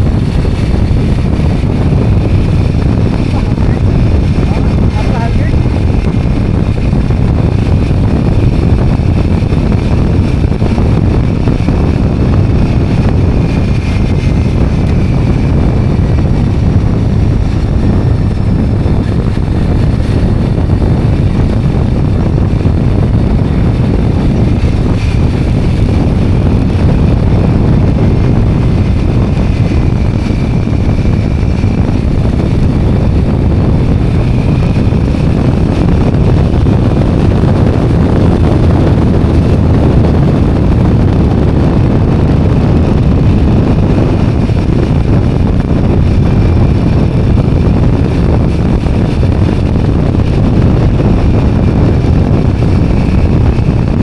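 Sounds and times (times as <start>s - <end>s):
road and vehicle noise: 0.0s - 54.0s
wind buffeting microphone: 0.0s - 54.0s.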